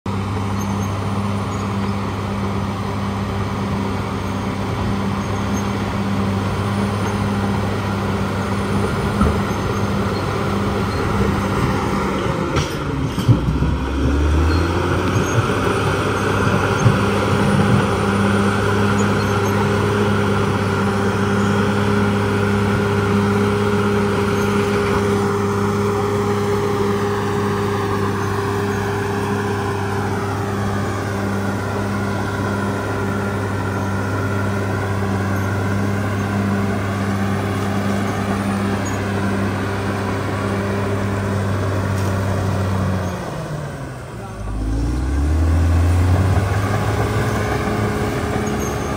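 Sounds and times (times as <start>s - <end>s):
bulldozer diesel engine under load: 0.0s - 48.9s.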